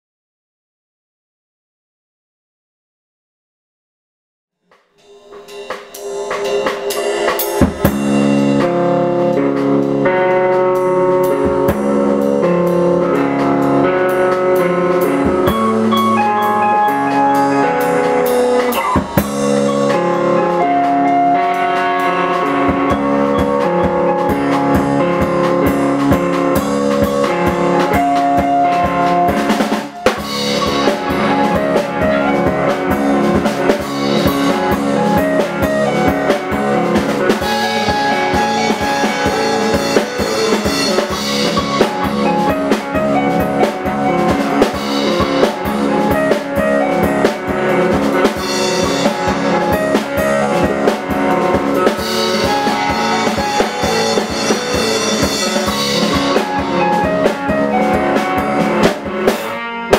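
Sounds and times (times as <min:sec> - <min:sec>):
drum hits: 0:04.7 - 0:59.5
metal band playing live: 0:05.0 - 0:59.9.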